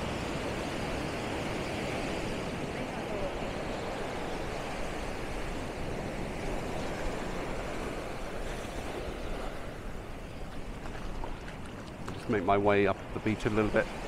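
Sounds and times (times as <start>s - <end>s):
sea surf breaking: 0.0s - 14.0s.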